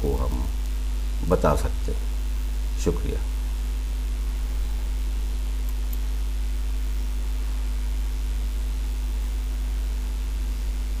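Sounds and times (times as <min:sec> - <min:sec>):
constant hiss: 0:00.0 - 0:11.0
electrical hum: 0:00.0 - 0:11.0.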